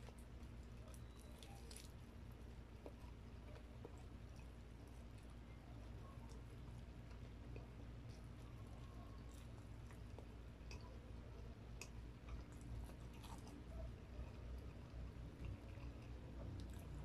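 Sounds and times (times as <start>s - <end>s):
chewing crispy food: 0.0s - 17.0s
faint low hum: 0.0s - 17.0s.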